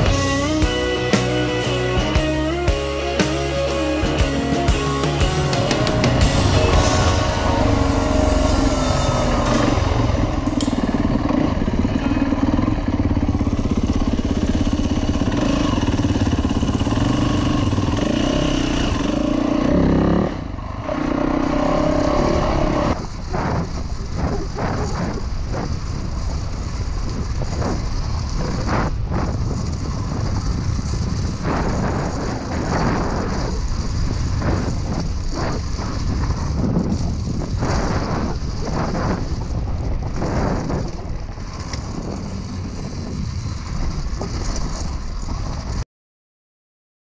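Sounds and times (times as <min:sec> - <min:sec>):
dirt bike engine rumbling: 0:00.0 - 0:45.8.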